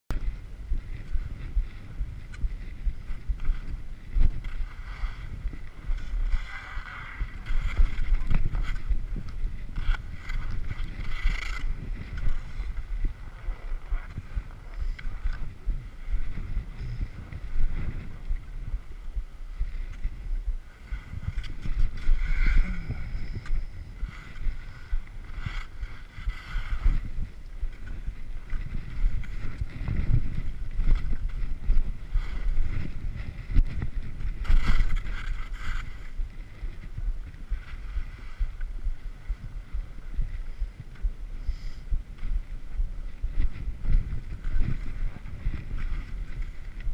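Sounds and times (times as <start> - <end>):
wind rumble on microphone: 0.1 - 46.9
skis scraping over snow: 0.2 - 46.9.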